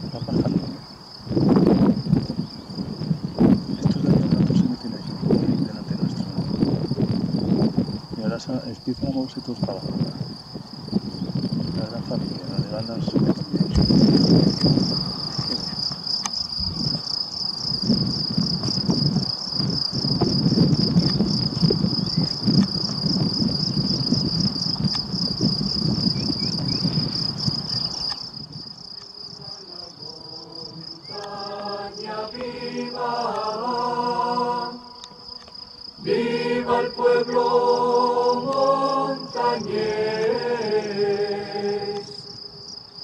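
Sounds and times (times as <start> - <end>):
cricket chirping: 0.0 - 43.0.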